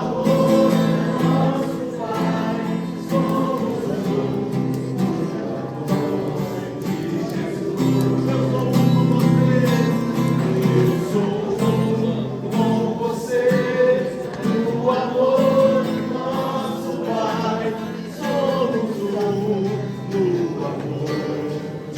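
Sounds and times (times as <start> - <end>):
strummed acoustic guitar: 0.0 - 21.9
voices singing slow melody: 0.0 - 21.9.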